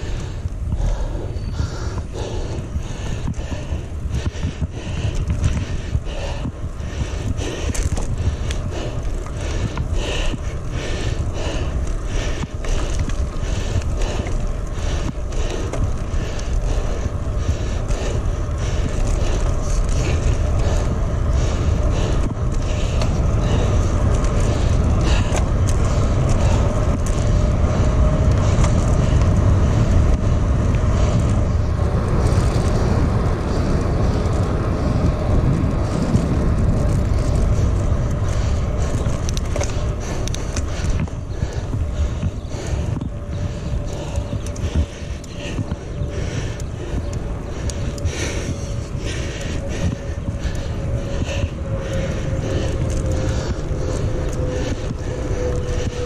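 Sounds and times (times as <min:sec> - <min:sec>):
bicycle tyre noise: 0:00.0 - 0:56.0
wind rumble on microphone: 0:00.0 - 0:56.0.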